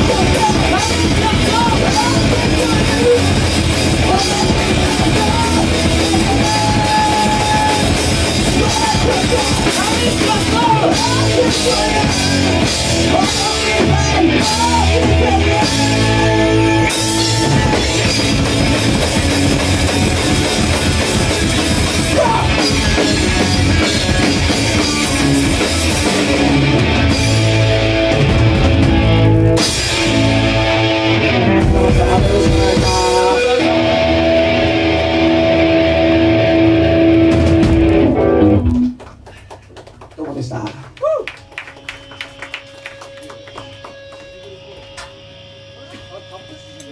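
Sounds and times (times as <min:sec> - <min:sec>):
live rock band playing: 0:00.0 - 0:39.1, 0:41.8 - 0:46.9.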